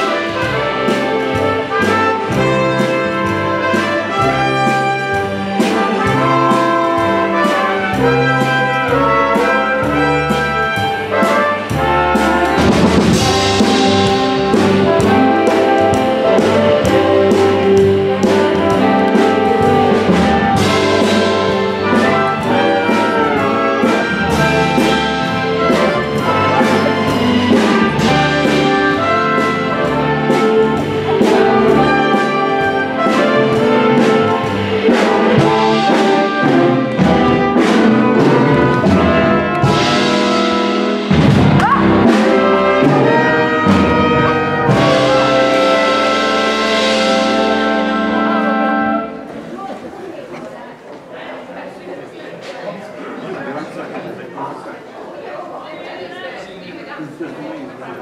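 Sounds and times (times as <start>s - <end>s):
trumpets and trombones: 0.0s - 49.4s.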